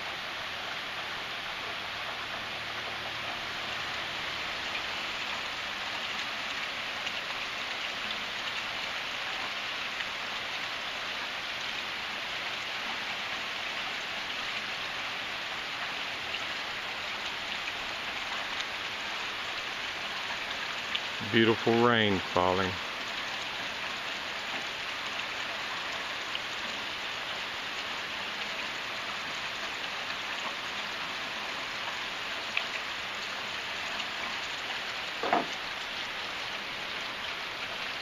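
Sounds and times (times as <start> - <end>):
rain on a tin roof: 0.0 - 38.0.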